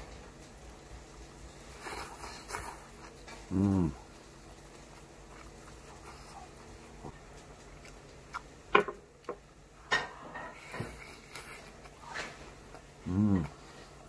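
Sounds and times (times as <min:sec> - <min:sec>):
person eating: 0:01.1 - 0:09.4, 0:10.4 - 0:14.0.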